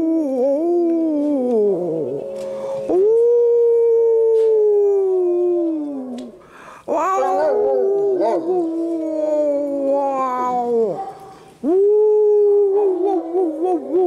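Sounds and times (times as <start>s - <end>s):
dog howling: 0.0s - 6.3s, 6.9s - 14.0s.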